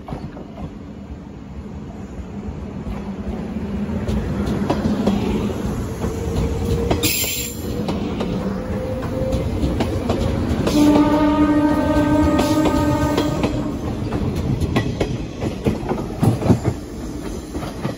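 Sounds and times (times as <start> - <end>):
train wheels rumbling: 0.0 - 17.9.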